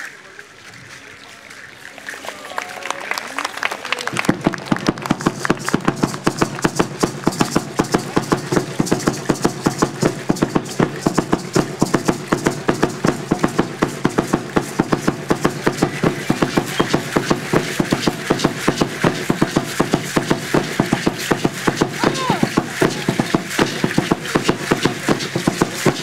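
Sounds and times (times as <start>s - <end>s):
fast drumbeat: 4.2s - 26.0s.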